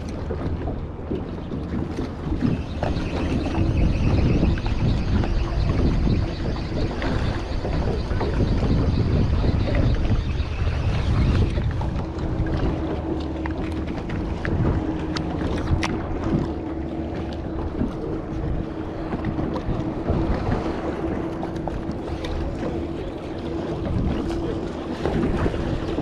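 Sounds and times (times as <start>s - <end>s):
water noise around hull: 0.0s - 26.0s
wind buffeting microphone: 0.0s - 26.0s.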